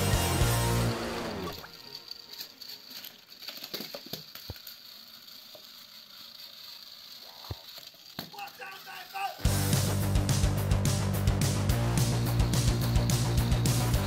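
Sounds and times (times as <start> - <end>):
toy train motor whining: 0.0 - 14.0
wheels clicking on plastic track: 0.1 - 9.6, 12.1 - 14.0.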